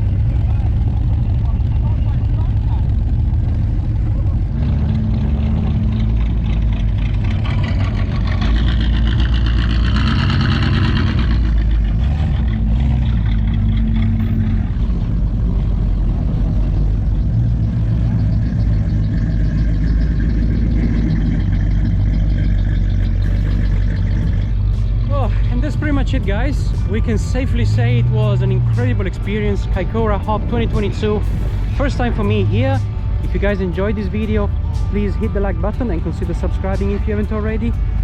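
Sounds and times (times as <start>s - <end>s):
car engines low drone: 0.0s - 38.0s
higher-pitched engine sound: 0.0s - 38.0s.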